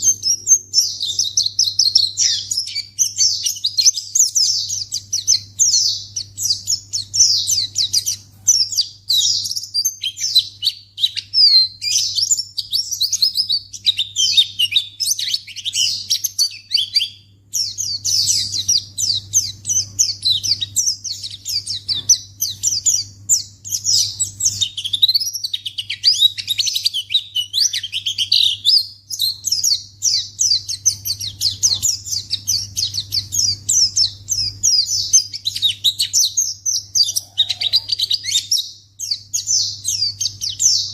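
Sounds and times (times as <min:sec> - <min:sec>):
bird twittering: 0:00.0 - 0:40.9
faint low hum: 0:00.0 - 0:40.9.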